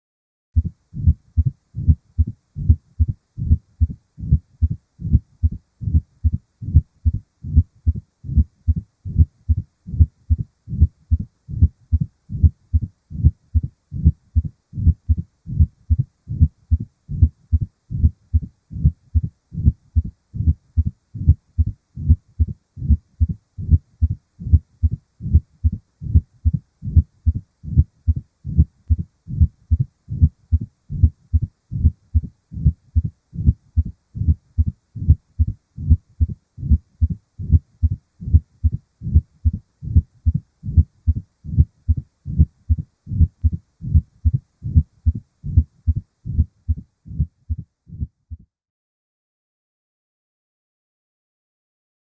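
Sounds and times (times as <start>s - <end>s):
low-pitched heartbeat: 0.6s - 48.5s.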